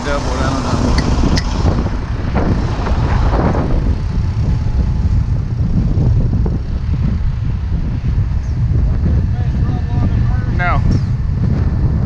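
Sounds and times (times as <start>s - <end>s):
diesel truck engine rumbling: 0.0s - 10.5s.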